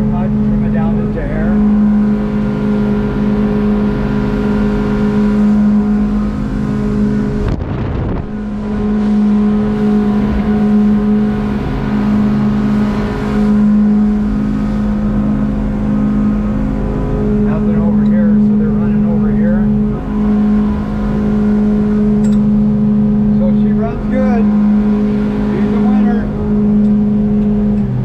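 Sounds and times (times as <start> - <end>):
outboard motor at full throttle: 0.0 - 28.0.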